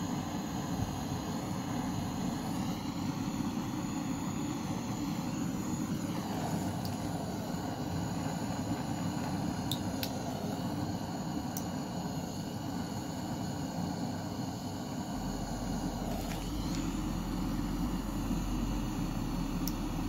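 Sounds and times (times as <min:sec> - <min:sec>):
butane torch hissing: 0:00.0 - 0:20.0.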